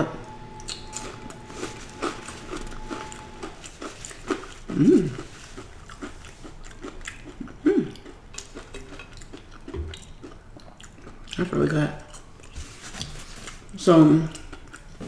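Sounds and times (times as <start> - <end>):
crunchy chewing: 0.3 - 15.0.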